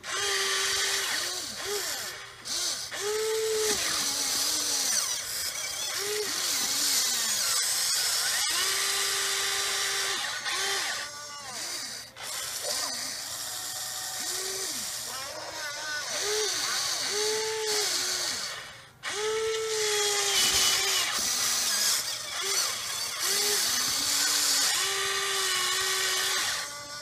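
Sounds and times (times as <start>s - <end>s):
electric motors whining: 0.0s - 27.0s.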